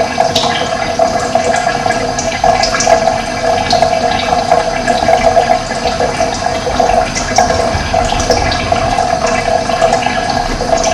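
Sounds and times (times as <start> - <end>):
running water flowing: 0.0 - 10.9.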